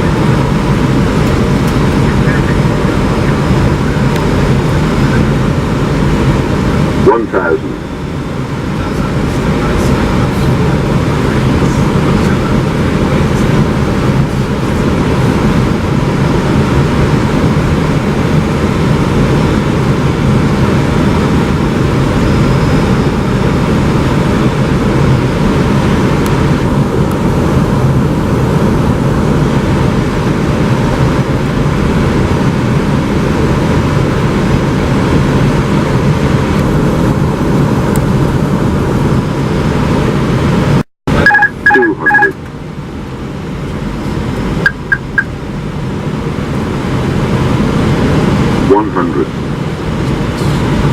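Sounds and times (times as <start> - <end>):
airflow and engine noise in cockpit: 0.0 - 50.9.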